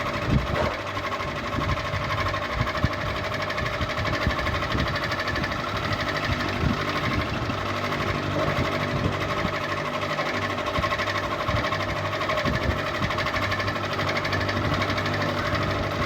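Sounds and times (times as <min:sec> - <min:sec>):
ceiling fan motor hum: 0:00.0 - 0:16.0
fan blades whirring: 0:00.0 - 0:16.0.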